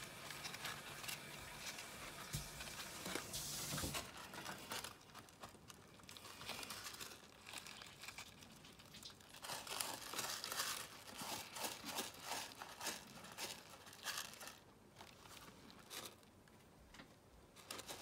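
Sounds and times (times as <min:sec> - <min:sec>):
hedgehogs rustling in bedding: 0:00.0 - 0:16.3.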